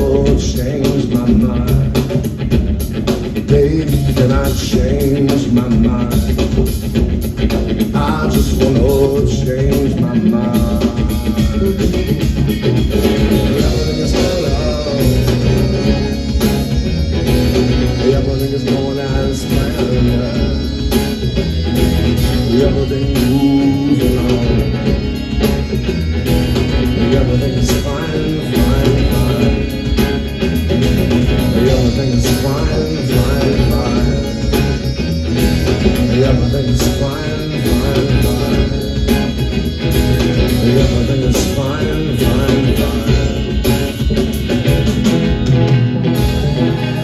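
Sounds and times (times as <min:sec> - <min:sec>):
guitar: 0:00.0 - 0:47.0
rock band playing live: 0:00.0 - 0:47.0.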